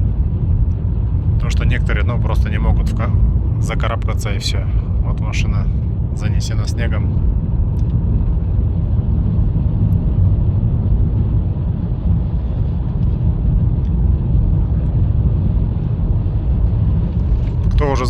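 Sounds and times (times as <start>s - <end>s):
car tyre and engine rumble: 0.0s - 18.0s.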